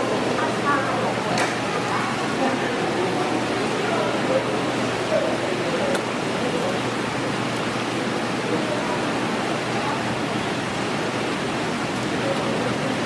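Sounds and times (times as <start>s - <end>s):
faint voices murmuring: 0.0s - 13.0s.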